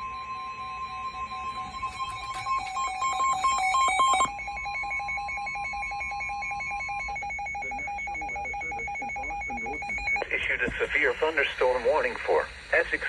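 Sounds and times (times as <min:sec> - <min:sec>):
choppy electronic alert beeps: 0:00.0 - 0:10.5
fast pulsing phone-like beep: 0:00.0 - 0:10.5.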